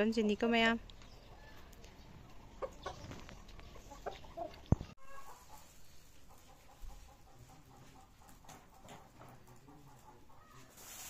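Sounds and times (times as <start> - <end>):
chickens clucking faintly: 0.9 - 11.0.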